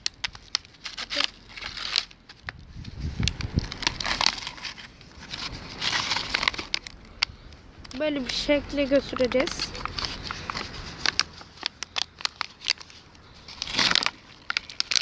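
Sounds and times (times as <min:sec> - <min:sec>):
plastic bottle crackling: 0:00.0 - 0:15.0.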